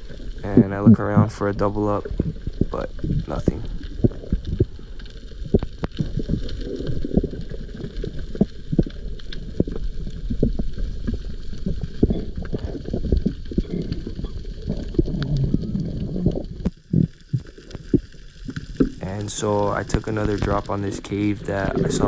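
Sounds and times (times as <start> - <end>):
muffled underwater water noise: 0.0 - 22.0.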